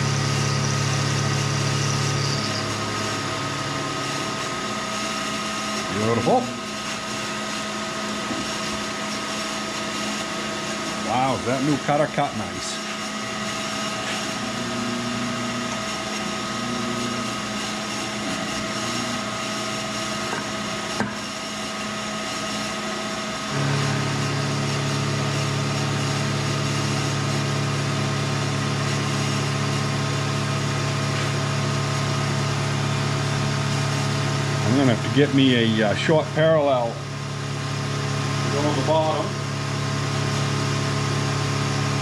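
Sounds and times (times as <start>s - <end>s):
milling machine motor hum: 0.0s - 42.0s.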